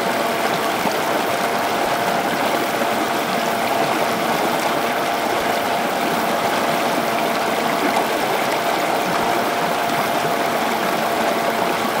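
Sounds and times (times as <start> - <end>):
water flowing: 0.0 - 12.0.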